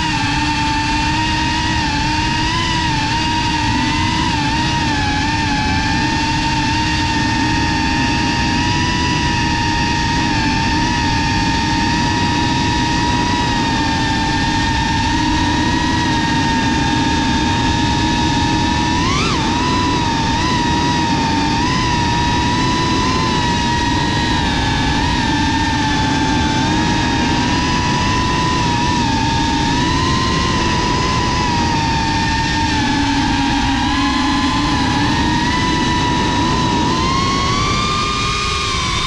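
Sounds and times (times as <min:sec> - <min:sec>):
quadcopter motors whining: 0:00.0 - 0:39.0
rush of prop wash and wind: 0:00.0 - 0:39.0.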